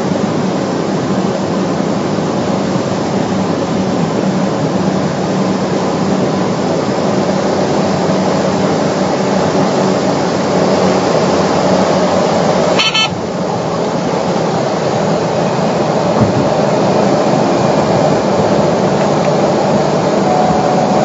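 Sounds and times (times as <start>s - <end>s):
turboprop engine running: 0.0s - 21.0s.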